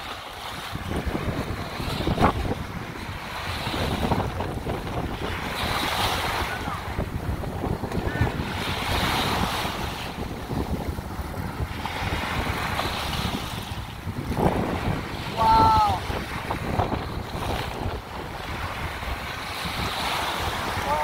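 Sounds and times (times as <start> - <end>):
waves washing on sandy shore: 0.0 - 21.0
wind buffeting microphone: 0.0 - 21.0.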